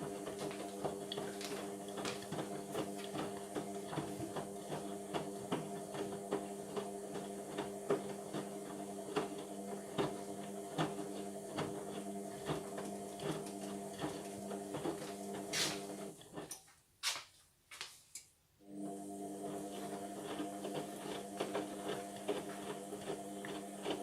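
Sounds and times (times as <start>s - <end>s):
washing machine motor hum: 0.0s - 16.5s, 18.6s - 24.0s.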